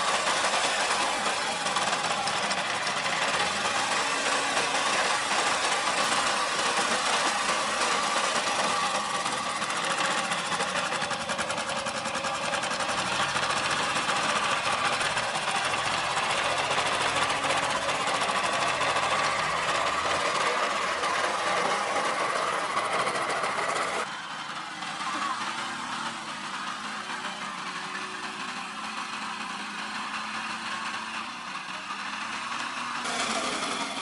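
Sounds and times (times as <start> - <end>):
diesel truck engine clattering: 0.0 - 34.0.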